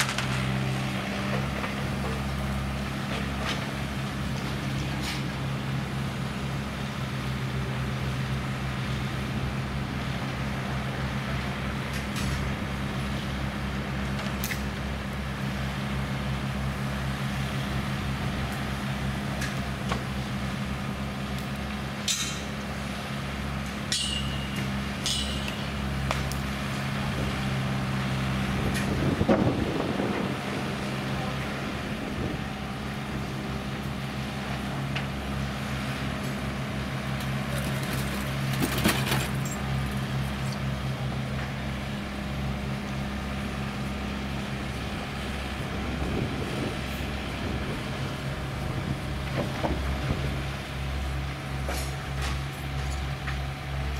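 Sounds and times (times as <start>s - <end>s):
distant diesel engines running: 0.0s - 53.9s.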